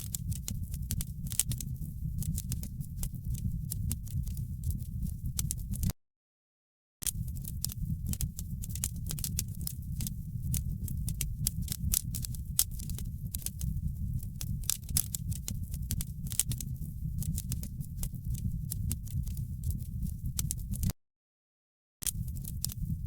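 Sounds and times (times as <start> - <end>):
sharp pops and snaps: 0.0 - 4.8, 7.0 - 20.9, 22.0 - 23.0
low rumble of flame: 0.0 - 5.9, 7.1 - 20.9, 22.1 - 23.0
wood fire crackling: 0.0 - 5.9, 7.1 - 20.9, 22.1 - 23.0.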